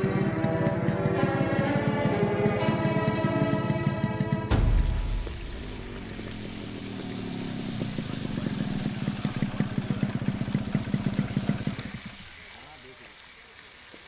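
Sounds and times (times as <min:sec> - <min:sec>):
motorcycle engine at low speed: 0:00.0 - 0:12.6.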